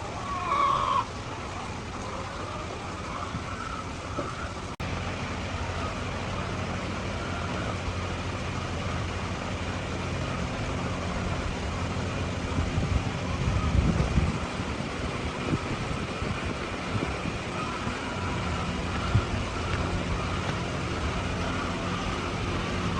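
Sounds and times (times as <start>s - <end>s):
engine humming: 0.0s - 22.9s.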